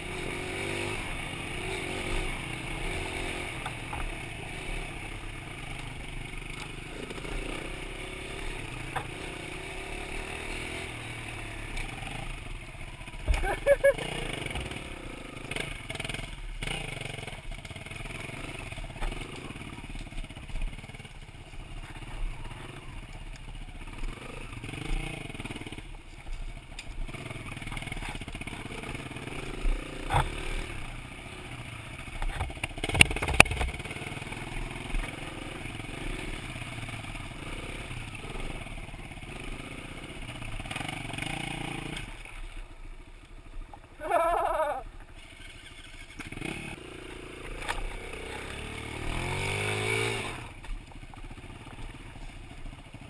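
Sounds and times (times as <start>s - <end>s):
motorbike engine running: 0.0s - 53.0s.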